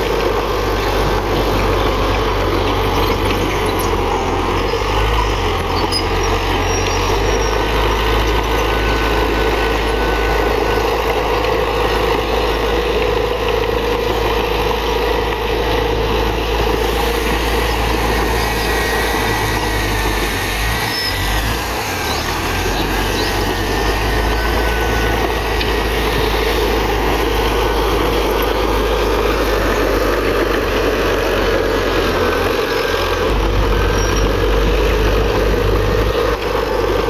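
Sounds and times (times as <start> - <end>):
bulldozer diesel engine rumbling: 0.0 - 37.0.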